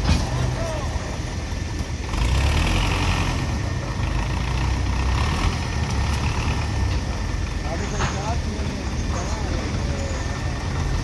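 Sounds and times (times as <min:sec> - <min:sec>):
heavy diesel engine idling: 0:00.0 - 0:11.0.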